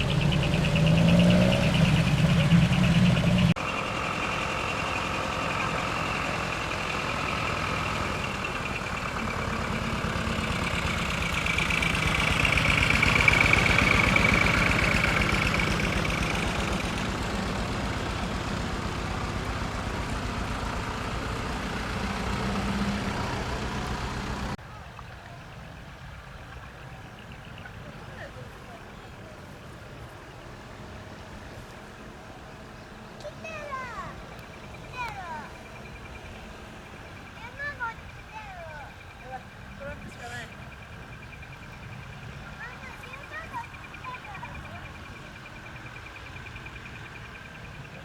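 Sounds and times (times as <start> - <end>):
truck diesel engine running: 0.0 - 24.9, 25.5 - 48.0.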